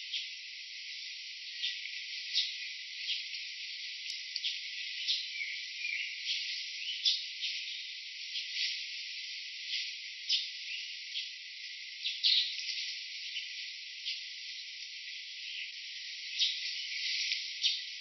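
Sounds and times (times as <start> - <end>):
insect chirps: 0.0 - 18.0
insect chorus buzzing: 0.0 - 18.0.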